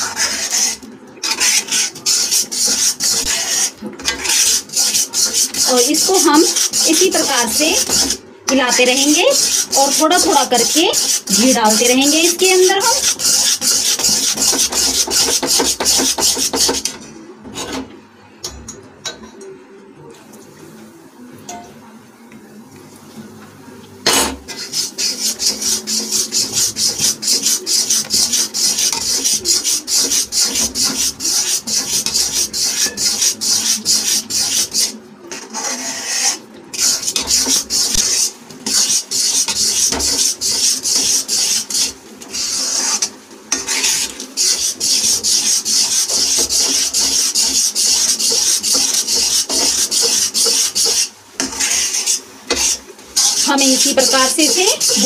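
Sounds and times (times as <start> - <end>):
metal spatula scraping a pan: 0.0 - 17.9, 24.1 - 55.0.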